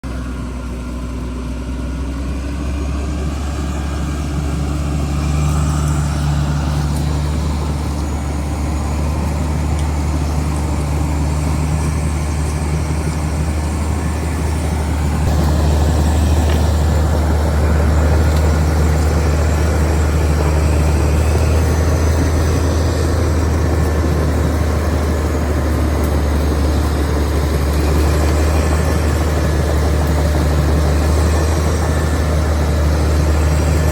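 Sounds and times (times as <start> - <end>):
bulldozer diesel engine droning: 0.0 - 33.9.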